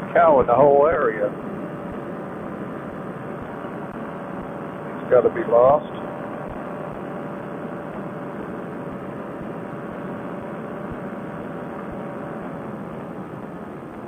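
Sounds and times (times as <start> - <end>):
paramotor engine and propeller running: 0.0 - 14.0.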